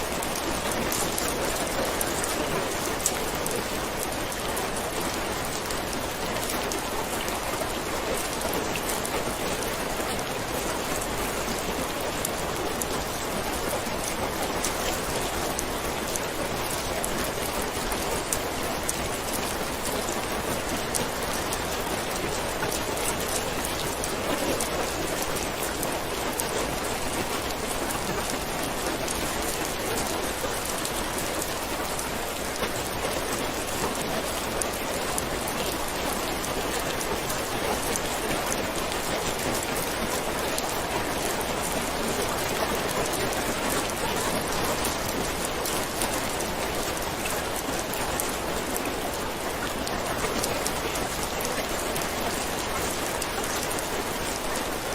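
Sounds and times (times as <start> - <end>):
rain pattering on a surface: 0.0 - 54.9.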